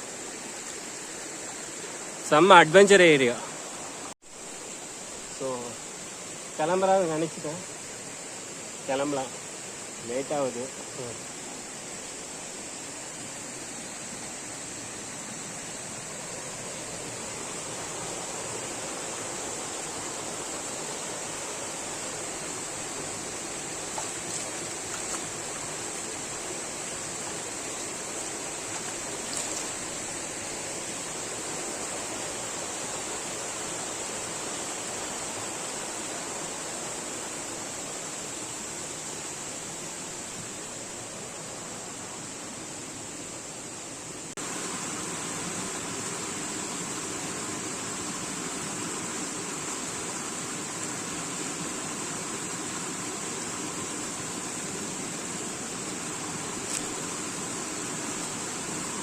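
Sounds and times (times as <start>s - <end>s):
high hiss: 0.0s - 59.0s
stream running over rocks: 0.0s - 59.0s.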